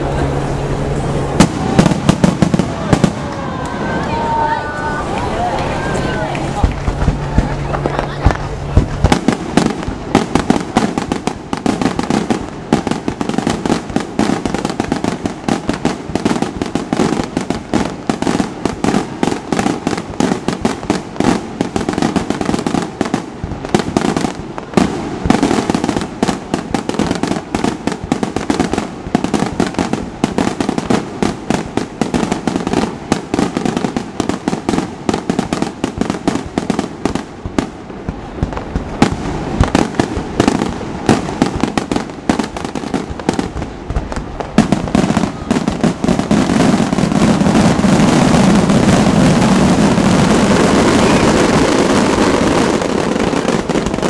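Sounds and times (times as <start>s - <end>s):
firework shells bursting: 5.0s - 54.0s.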